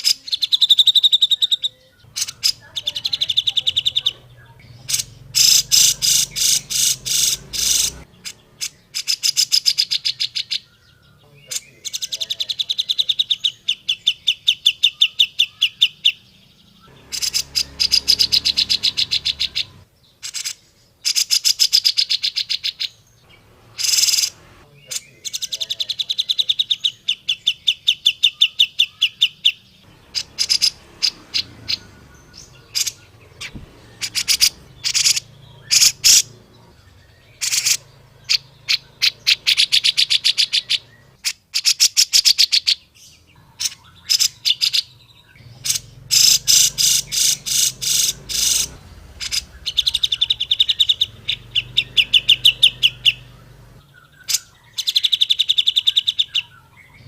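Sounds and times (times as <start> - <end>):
bird chattering calls: 0.0 - 16.2, 16.8 - 57.0.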